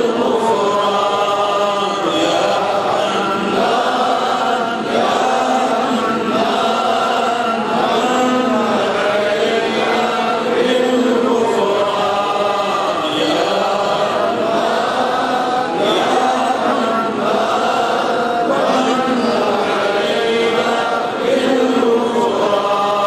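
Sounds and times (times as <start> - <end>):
man chanting through microphone: 0.0 - 23.0.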